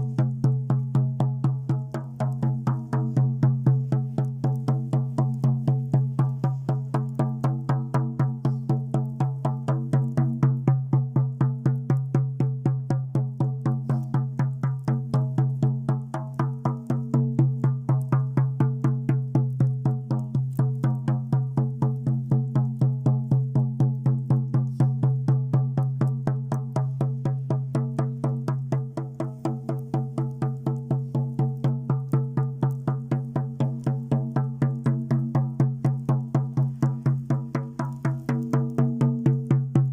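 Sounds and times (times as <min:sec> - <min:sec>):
drum beaten in steady rhythm: 0:00.0 - 0:39.9.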